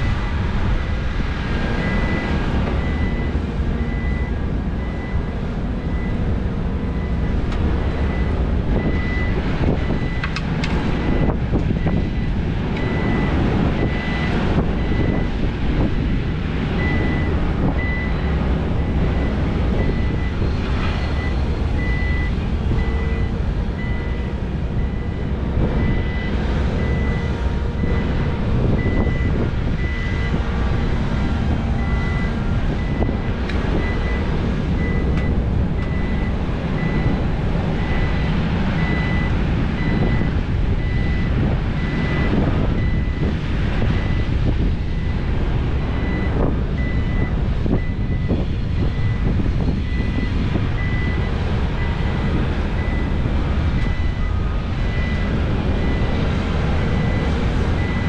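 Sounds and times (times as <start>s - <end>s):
heavy machinery droning: 0.0s - 58.0s
backup alarm beeping: 1.8s - 10.3s, 11.0s - 56.2s, 56.8s - 58.0s.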